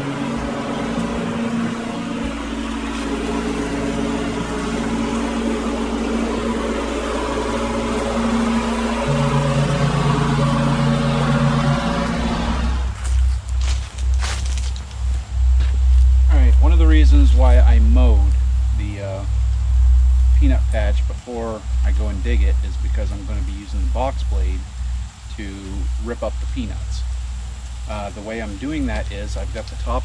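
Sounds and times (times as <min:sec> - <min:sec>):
riding lawn mower running: 0:00.0 - 0:30.0.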